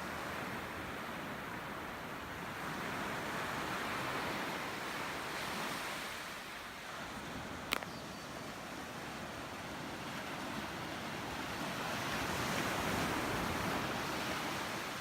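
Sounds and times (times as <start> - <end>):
ocean waves washing onto shore: 0.0 - 15.0.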